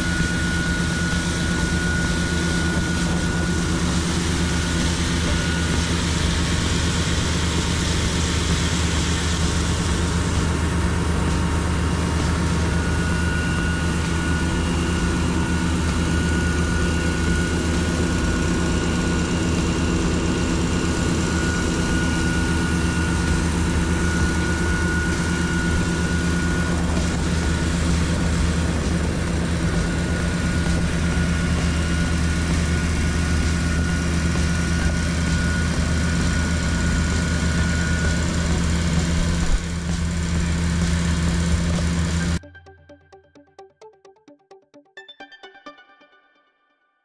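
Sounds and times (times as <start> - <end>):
diesel engine running: 0.0 - 42.5
pump whine: 0.0 - 45.5.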